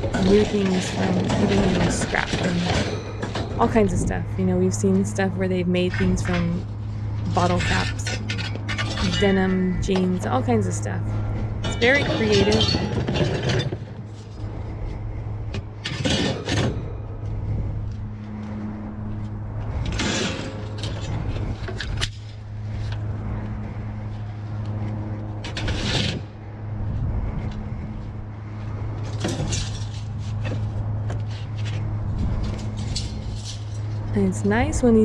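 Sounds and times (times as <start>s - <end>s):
scrap metal clanking and scraping: 0.0s - 26.5s, 28.4s - 34.1s.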